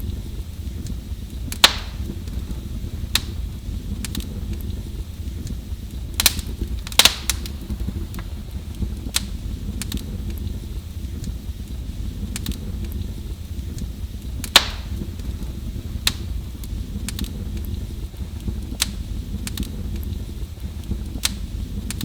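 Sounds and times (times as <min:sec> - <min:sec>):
fire crackling in fireplace: 0:00.0 - 0:22.0
wood popping in fire: 0:00.0 - 0:22.0.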